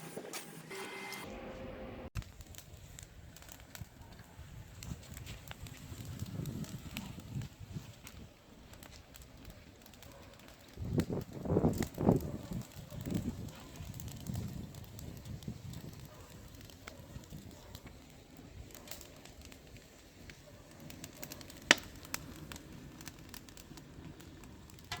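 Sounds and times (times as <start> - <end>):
fire crackling and popping: 2.2 - 25.0.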